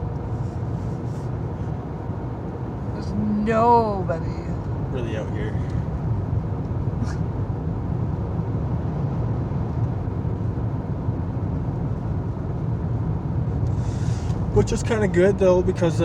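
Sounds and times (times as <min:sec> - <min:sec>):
car driving heard from inside: 0:00.0 - 0:16.0.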